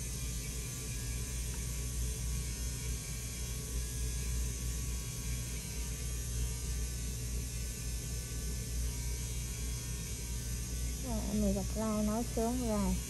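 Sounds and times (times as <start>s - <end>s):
faint buzz: 0.0s - 13.0s
low electrical hum: 0.0s - 13.0s.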